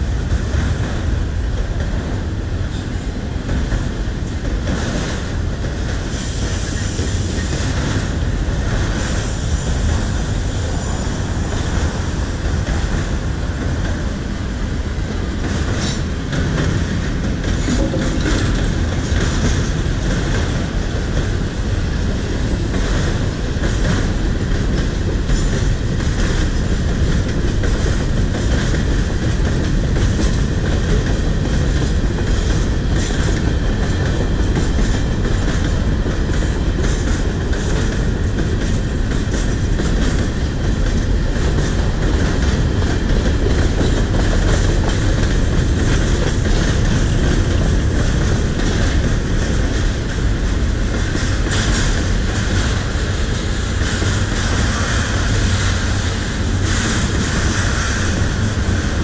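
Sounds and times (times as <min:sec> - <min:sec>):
freight train rumbling past: 0:00.0 - 0:59.0
train wheels clicking over rail joints: 0:00.0 - 0:59.0.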